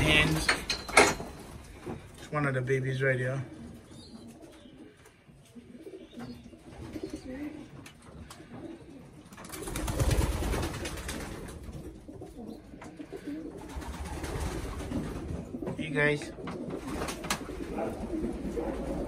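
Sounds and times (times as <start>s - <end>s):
pigeons cooing: 3.3s - 19.0s.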